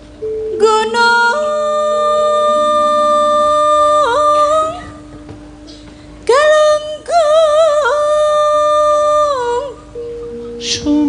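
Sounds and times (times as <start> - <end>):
woman singing long notes: 0.2 - 5.2, 6.2 - 11.0.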